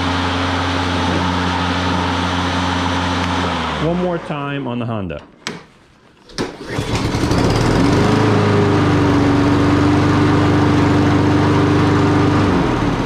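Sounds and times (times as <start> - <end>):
lawn mower engine starting and running: 0.0 - 4.6, 6.3 - 13.0.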